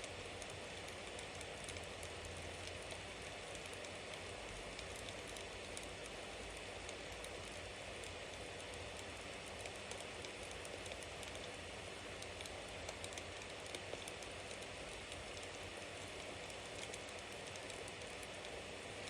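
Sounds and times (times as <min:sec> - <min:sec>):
bonfire crackling and hissing: 0:00.0 - 0:19.0.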